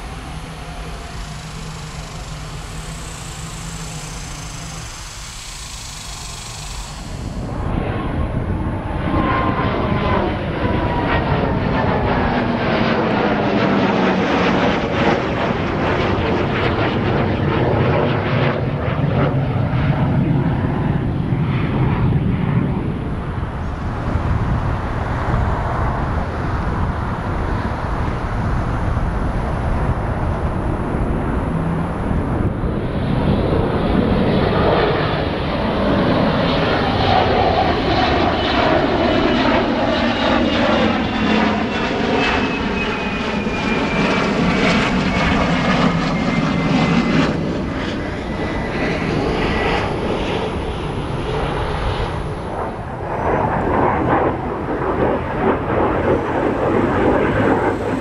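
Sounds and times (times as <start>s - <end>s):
crackling jet noise: 0.0s - 58.0s
falling jet whine: 0.0s - 58.0s
jet engine roaring overhead: 0.0s - 58.0s.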